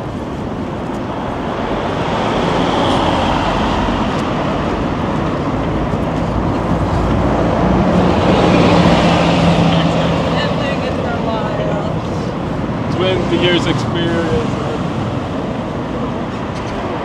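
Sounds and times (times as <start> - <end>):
cars passing on street: 0.0 - 17.0.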